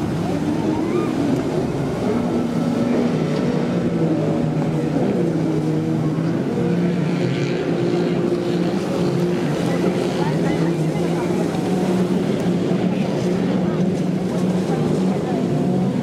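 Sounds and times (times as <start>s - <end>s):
jet ski engines racing: 0.0s - 16.0s.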